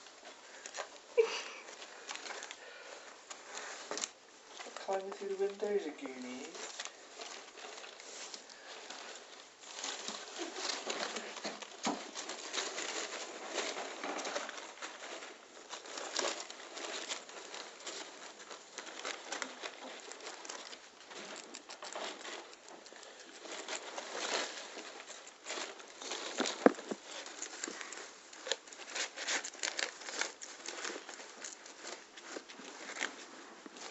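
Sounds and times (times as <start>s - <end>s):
paper rustling: 0.0s - 33.9s
guinea pig crunching food: 0.1s - 33.9s.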